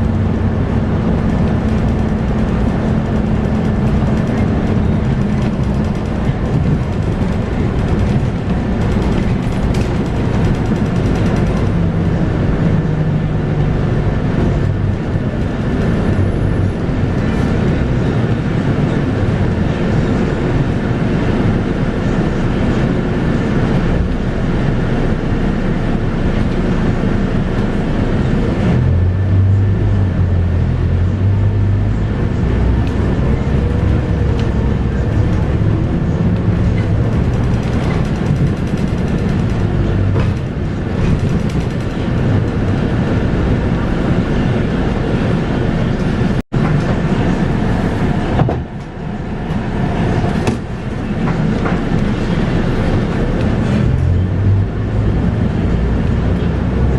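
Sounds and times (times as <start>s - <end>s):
bus diesel engine: 0.0s - 56.9s
road and body noise: 0.0s - 56.9s.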